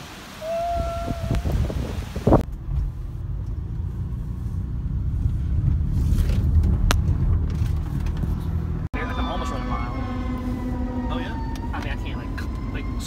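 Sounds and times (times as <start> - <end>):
car driving rumble inside cabin: 2.2 - 12.9.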